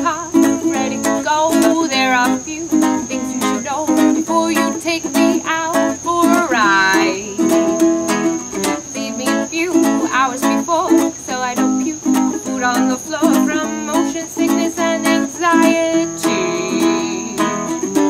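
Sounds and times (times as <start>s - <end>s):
ukulele strumming: 0.0s - 18.0s
woman singing: 0.0s - 18.0s.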